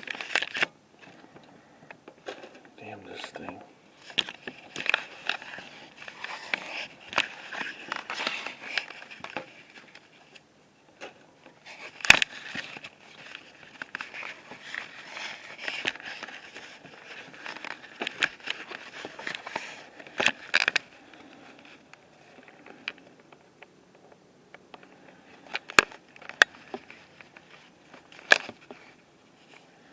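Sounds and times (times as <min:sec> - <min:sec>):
handling noise rustling and clicks: 0:00.0 - 0:29.9.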